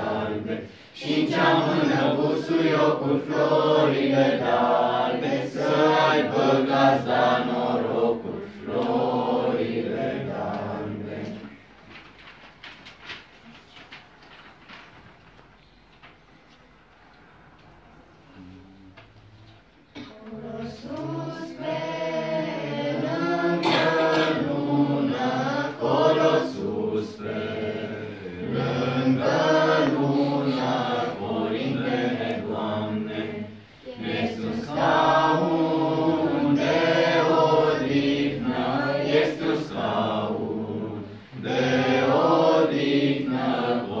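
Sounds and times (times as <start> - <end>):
children singing a carol: 0.0 - 11.7, 19.9 - 44.0.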